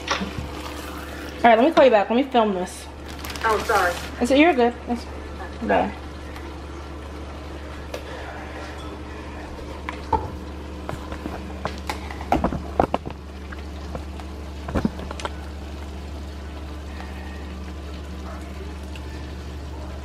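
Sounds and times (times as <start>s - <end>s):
low kitchen hum: 0.0s - 20.0s.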